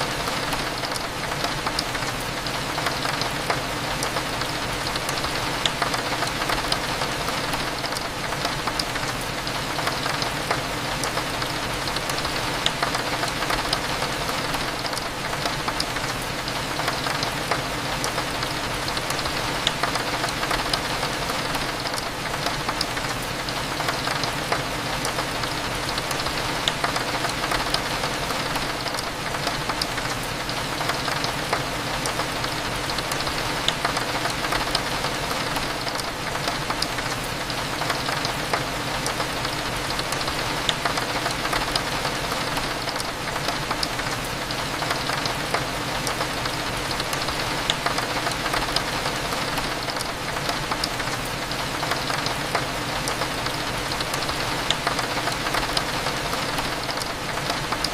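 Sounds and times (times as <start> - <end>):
rain on a window: 0.0 - 57.9.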